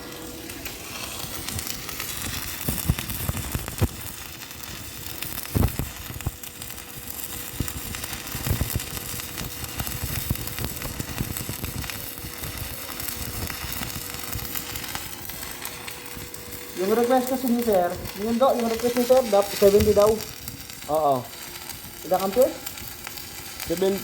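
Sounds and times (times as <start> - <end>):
welding arc crackling and sizzling: 0.0 - 24.0.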